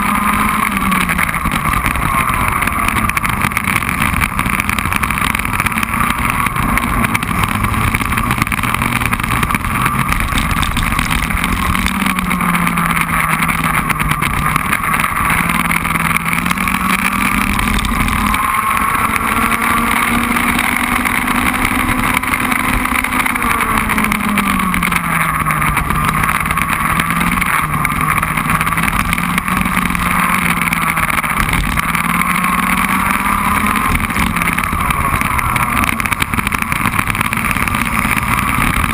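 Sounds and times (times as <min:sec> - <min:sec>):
kart engine revving: 0:00.0 - 0:38.9
wind and road noise: 0:00.0 - 0:38.9.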